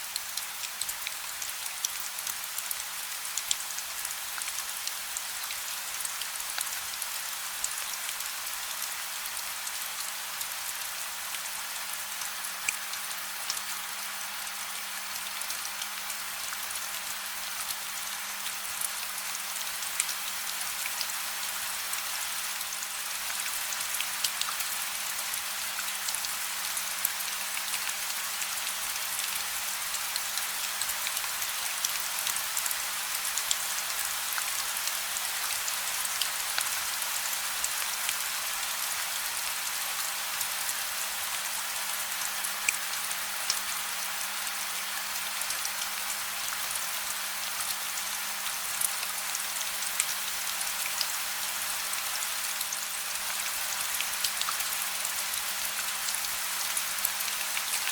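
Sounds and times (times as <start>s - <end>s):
steady gentle rain: 0.0s - 57.9s.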